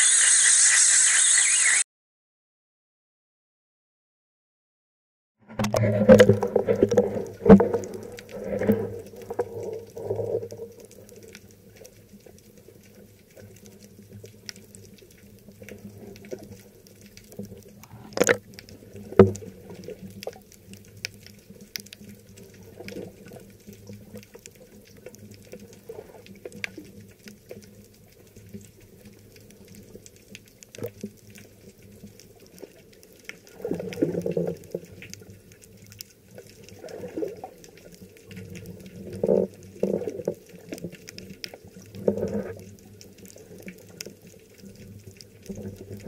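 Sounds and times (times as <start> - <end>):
muffled underwater sloshing: 5.5 - 46.0.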